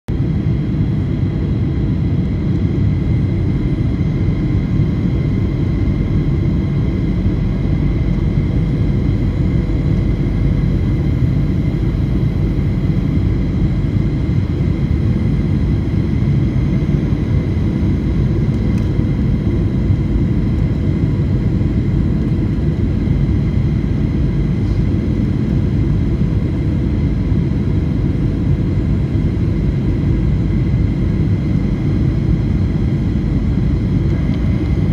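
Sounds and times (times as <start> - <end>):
airliner cabin rumble: 0.1 - 34.9.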